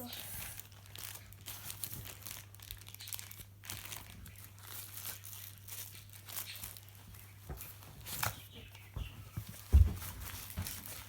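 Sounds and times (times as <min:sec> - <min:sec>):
plastic bags crinkling: 0:00.0 - 0:08.5, 0:09.4 - 0:11.0.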